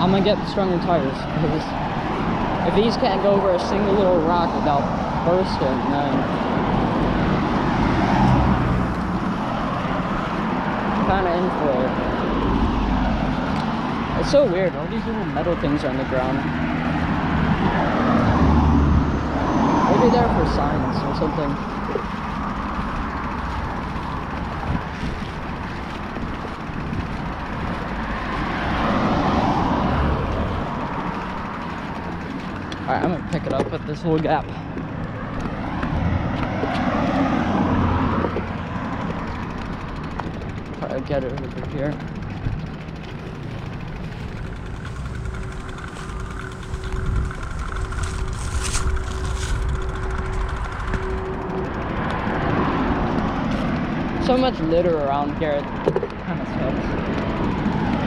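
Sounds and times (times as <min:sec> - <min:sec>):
road traffic noise: 0:00.0 - 0:58.0
vehicle passing: 0:00.0 - 0:58.0.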